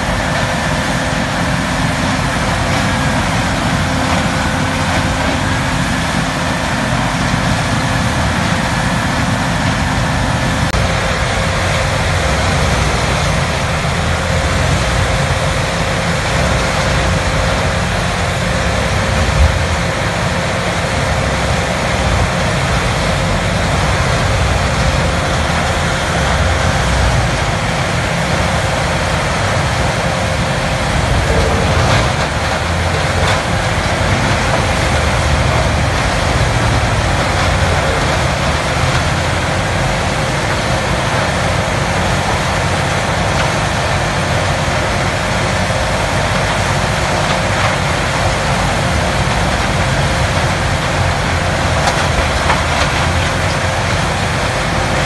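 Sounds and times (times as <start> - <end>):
grinder machine grinding brush: 0.0 - 55.0.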